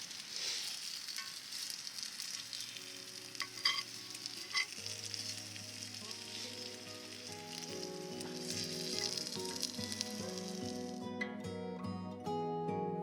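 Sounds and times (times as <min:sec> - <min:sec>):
steak sizzling in a skillet: 0:00.0 - 0:11.1
soft background music: 0:02.2 - 0:13.0.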